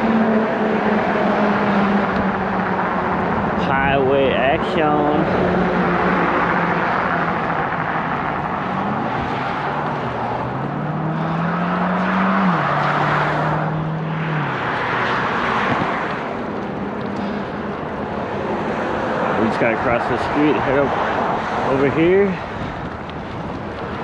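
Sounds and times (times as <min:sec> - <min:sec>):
highway traffic rushing: 0:00.0 - 0:24.0
vehicle engine hum: 0:00.0 - 0:24.0.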